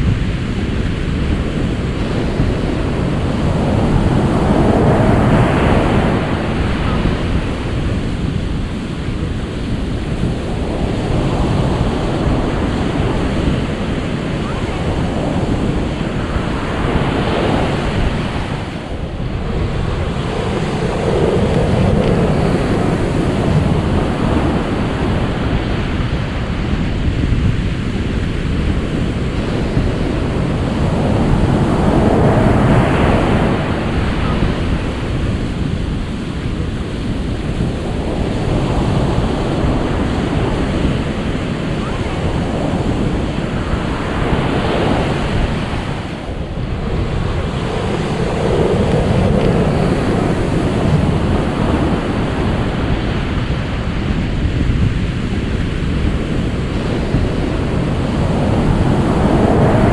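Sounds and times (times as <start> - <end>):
ocean surf washing ashore: 0.0 - 59.9.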